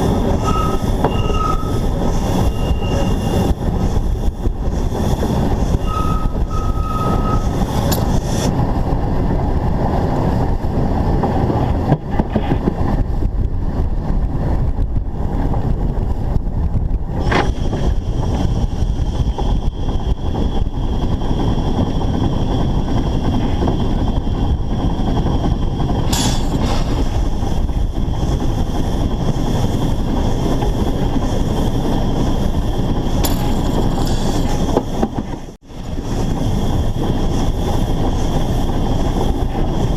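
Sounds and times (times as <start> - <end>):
steam locomotive running: 0.0 - 39.9.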